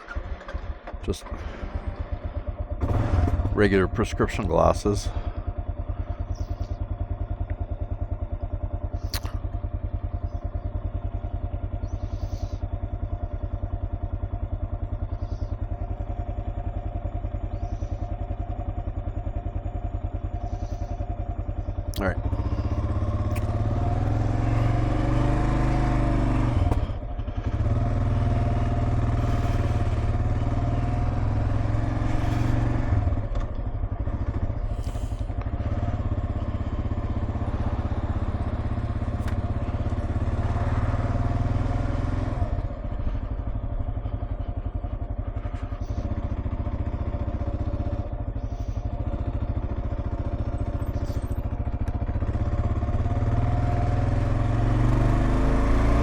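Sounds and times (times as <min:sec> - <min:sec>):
motorcycle engine on the road: 0:00.0 - 0:56.0.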